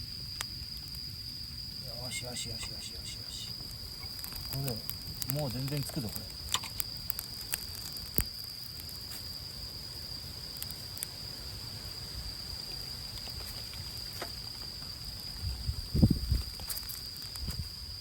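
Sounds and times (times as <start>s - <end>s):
campfire crackling and popping: 0.0s - 18.0s
high-pitched insect trill: 0.0s - 18.0s.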